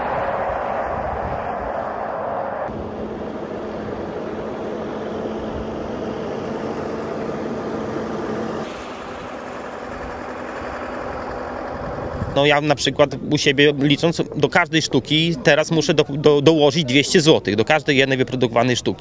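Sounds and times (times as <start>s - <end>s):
tractor engines driving past: 0.0s - 18.6s.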